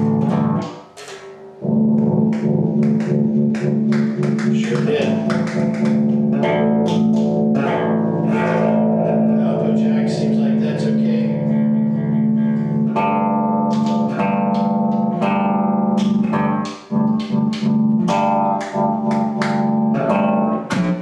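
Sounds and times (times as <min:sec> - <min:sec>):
electric bass notes: 0:00.0 - 0:21.0.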